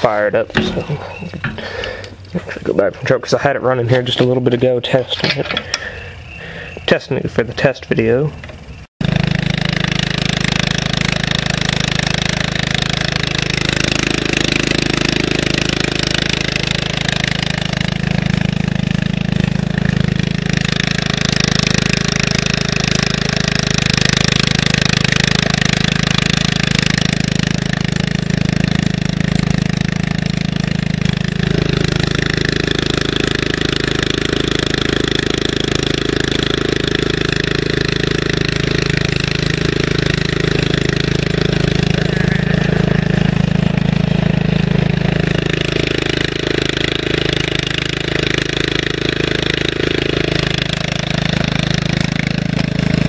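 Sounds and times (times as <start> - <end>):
small engine running: 0.0 - 7.0, 7.6 - 53.0.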